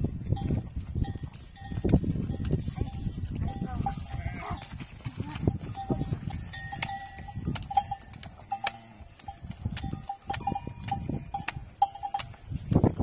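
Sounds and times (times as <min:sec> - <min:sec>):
cowbells clanking: 0:00.0 - 0:13.0.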